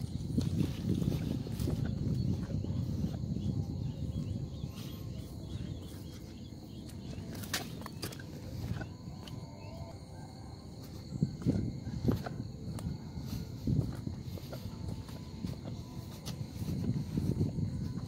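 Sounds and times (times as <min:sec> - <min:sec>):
footsteps on grass: 0:00.0 - 0:09.8, 0:10.8 - 0:18.0.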